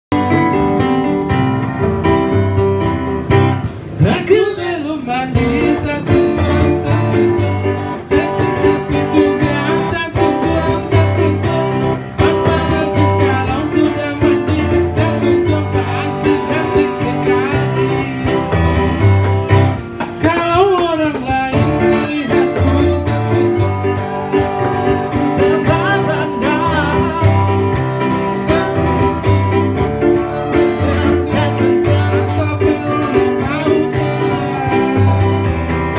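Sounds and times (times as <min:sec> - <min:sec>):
acoustic guitar: 0:00.1 - 0:35.9
man singing into a microphone: 0:04.0 - 0:19.1, 0:20.0 - 0:35.9.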